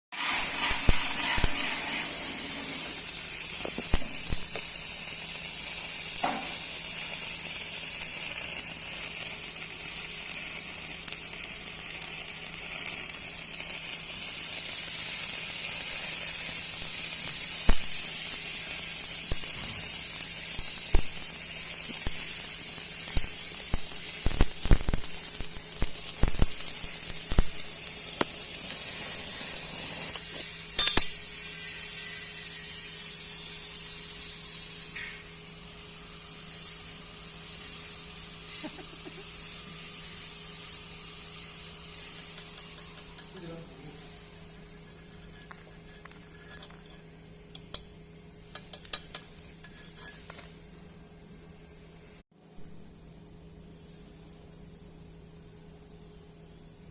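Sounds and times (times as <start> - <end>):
welding crackles and pops: 0.1 - 51.0
welding arc sizzling: 0.1 - 52.2.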